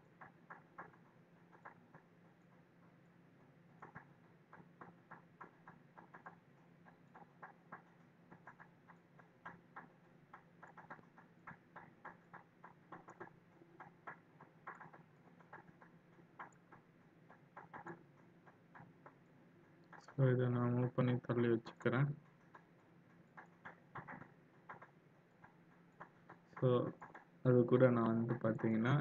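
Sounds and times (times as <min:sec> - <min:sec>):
faint low hum: 0:00.0 - 0:29.0
computer mouse clicks: 0:03.7 - 0:20.4, 0:21.1 - 0:29.0.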